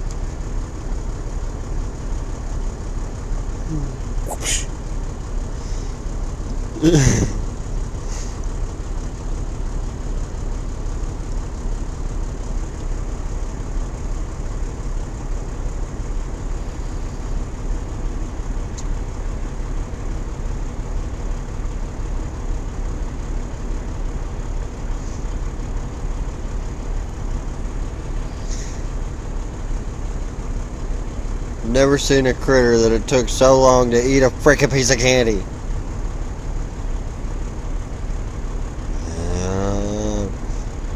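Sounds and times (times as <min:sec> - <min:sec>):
truck diesel engine droning: 0:00.0 - 0:40.9.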